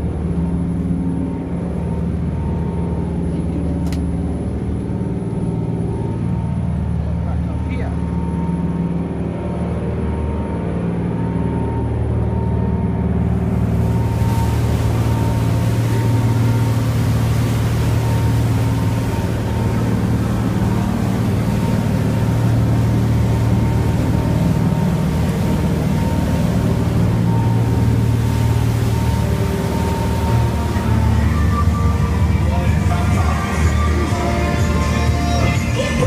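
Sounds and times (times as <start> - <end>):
motorboat engine droning: 0.0 - 36.0.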